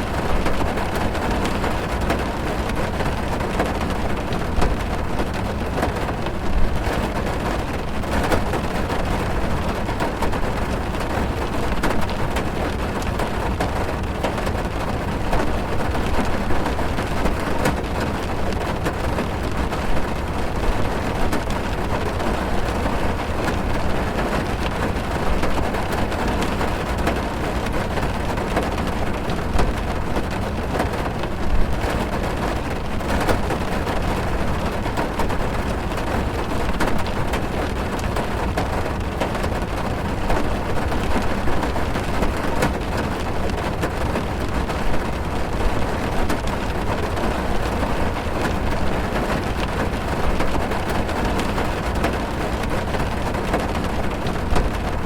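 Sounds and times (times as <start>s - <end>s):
heavy rain on car windows: 0.0s - 55.0s.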